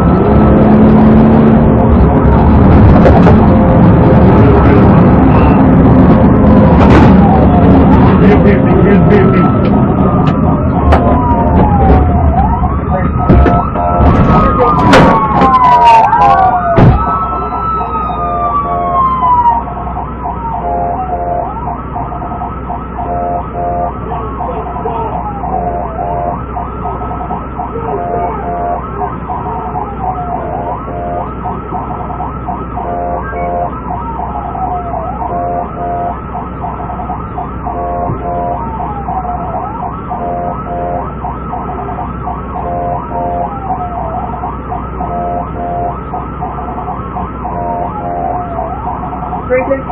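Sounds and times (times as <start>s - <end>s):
police siren wailing: 0.0s - 49.9s
pulsing siren tone: 0.0s - 49.9s.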